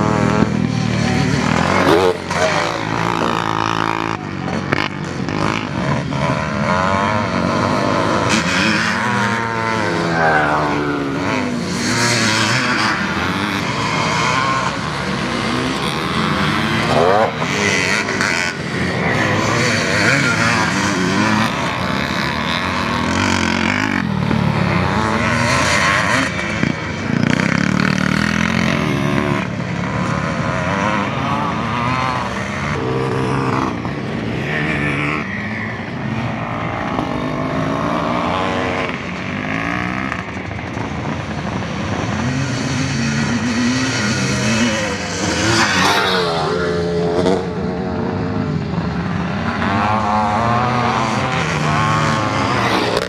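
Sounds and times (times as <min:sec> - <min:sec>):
motocross motorcycles revving: 0:00.0 - 0:53.0.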